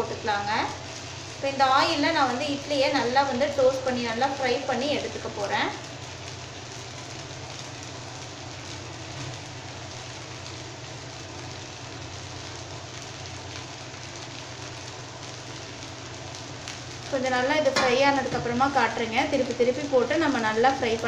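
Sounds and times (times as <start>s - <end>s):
food sizzling in oil: 0.0s - 21.0s
low steady hum: 0.0s - 21.0s.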